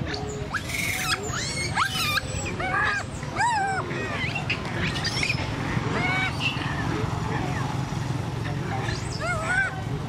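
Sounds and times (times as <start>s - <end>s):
macaques squealing: 0.0s - 7.2s, 8.8s - 10.0s.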